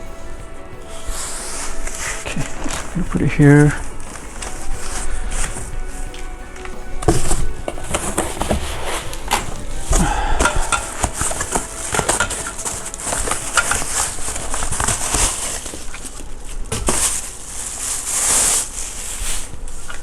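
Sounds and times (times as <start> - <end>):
cardboard packaging rustling: 0.0 - 20.0.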